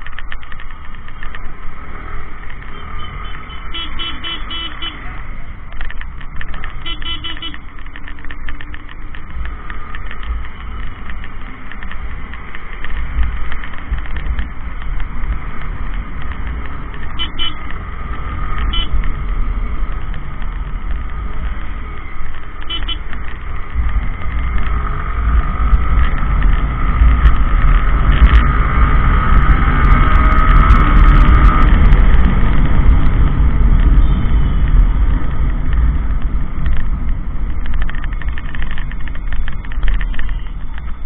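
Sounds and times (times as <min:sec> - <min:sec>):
motorcycle engine running: 0:00.0 - 0:41.0
wind rushing over microphone: 0:05.2 - 0:41.0.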